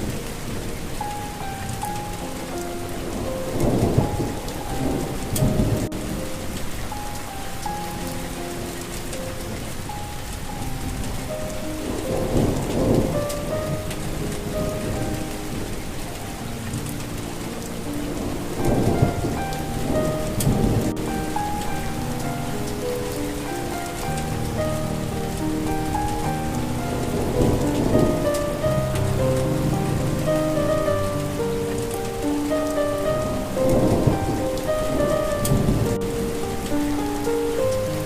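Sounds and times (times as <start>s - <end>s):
rain falling: 0.0s - 38.0s
soft melody of held notes: 0.0s - 38.0s
thunder rumbling: 0.0s - 38.0s.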